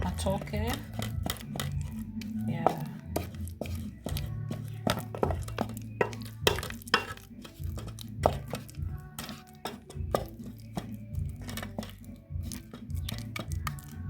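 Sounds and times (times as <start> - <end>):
background music with bass line: 0.0 - 14.0.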